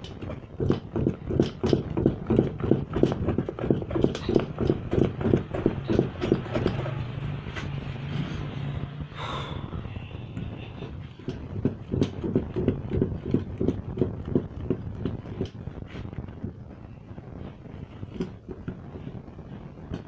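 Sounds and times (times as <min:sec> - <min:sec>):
thick liquid slapping when stirred: 0:00.0 - 0:08.5, 0:10.4 - 0:16.6, 0:17.7 - 0:20.0
low steady hum: 0:00.0 - 0:20.0.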